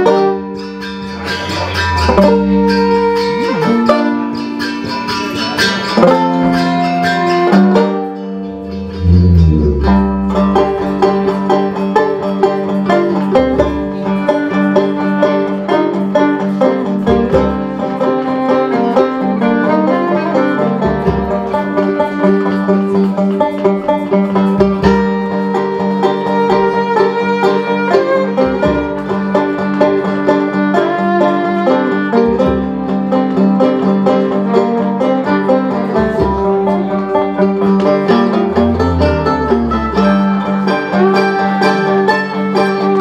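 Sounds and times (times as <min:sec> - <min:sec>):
folk band playing plucked strings: 0:00.0 - 0:43.0.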